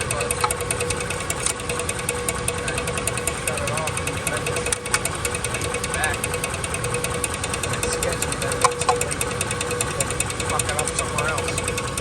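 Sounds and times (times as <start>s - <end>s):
car engine running: 0.0s - 12.0s
fast even ticking and rubbing: 0.0s - 12.0s
flywheel scraping: 0.0s - 12.0s.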